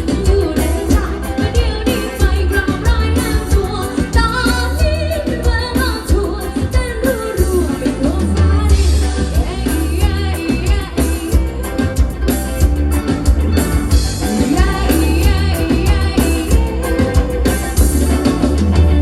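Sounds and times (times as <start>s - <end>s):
pop rock song with vocals: 0.0s - 19.0s.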